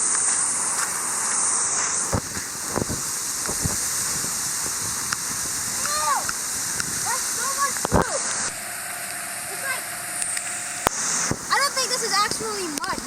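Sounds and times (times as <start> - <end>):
rain falling: 0.0 - 13.0
sharp ticks of raindrops: 0.0 - 13.0.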